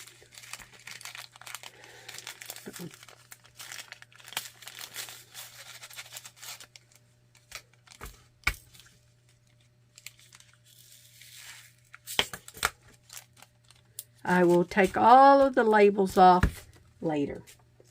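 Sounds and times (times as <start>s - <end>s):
plastic bags crinkling: 0.0s - 15.7s
faint steady hum: 0.0s - 17.9s.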